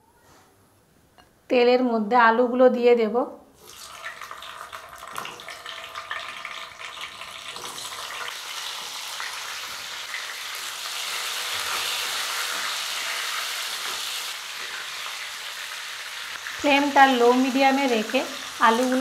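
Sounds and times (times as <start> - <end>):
potatoes sizzling in hot oil: 3.6 - 19.0.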